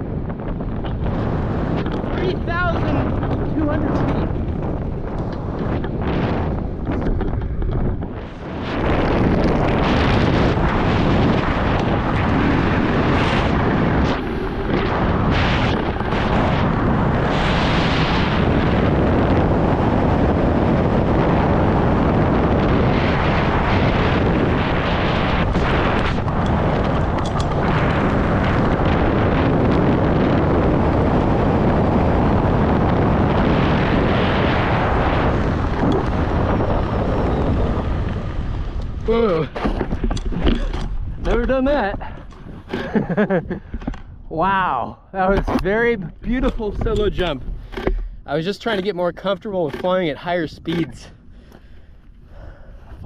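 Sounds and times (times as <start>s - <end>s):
freefall wind roar: 0.0s - 53.0s.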